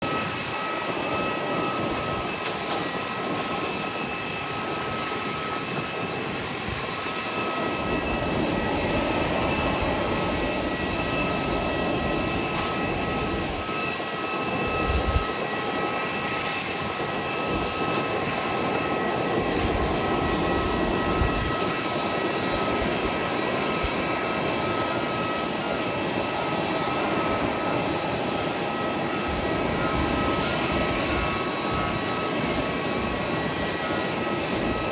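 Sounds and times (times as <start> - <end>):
jet aircraft rumble and whine: 0.0 - 34.9.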